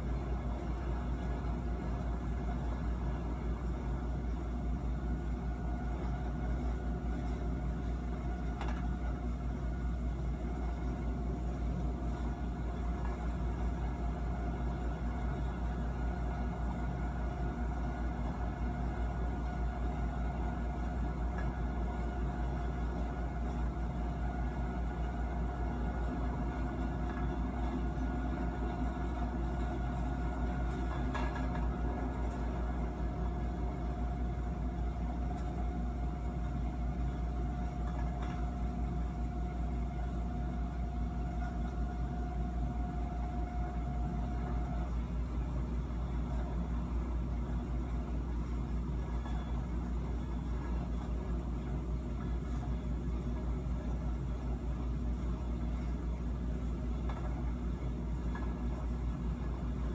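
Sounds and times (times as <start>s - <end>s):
faint steady tone: 0.0s - 59.9s.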